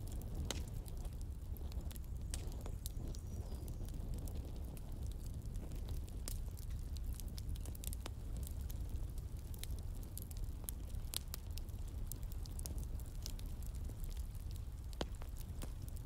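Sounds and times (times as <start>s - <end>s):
fire pops and snaps: 0.0s - 16.0s.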